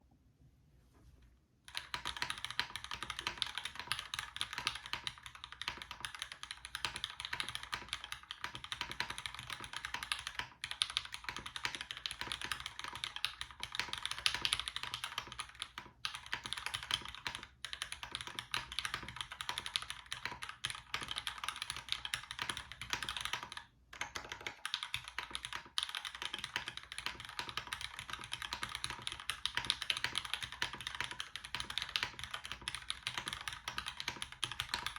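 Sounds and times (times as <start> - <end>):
mechanical keyboard typing: 1.7 - 34.9.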